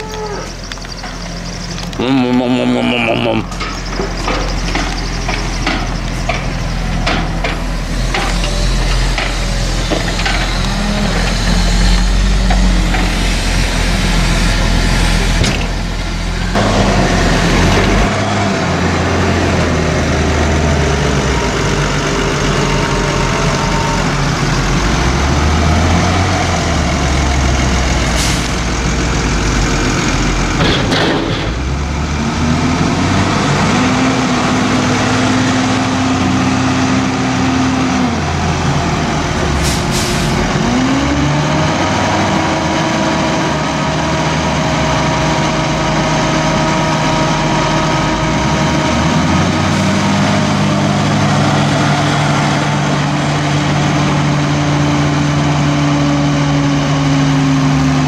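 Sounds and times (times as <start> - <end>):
diesel engines running: 0.0 - 58.0
tractor engine revving: 0.0 - 58.0.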